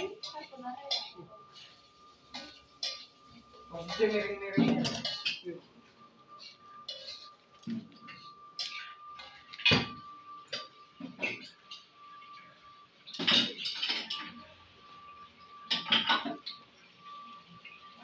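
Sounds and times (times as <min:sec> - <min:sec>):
faint steady high tone: 0:00.0 - 0:18.0
utensils clinking on pans: 0:00.0 - 0:18.0.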